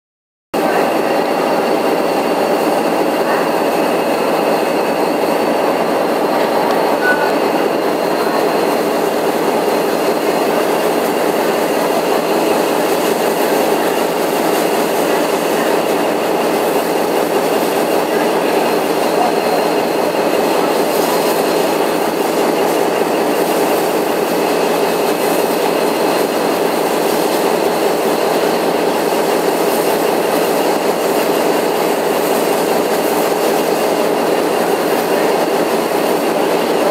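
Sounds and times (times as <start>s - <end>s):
steam locomotive hissing: 0.6s - 36.9s.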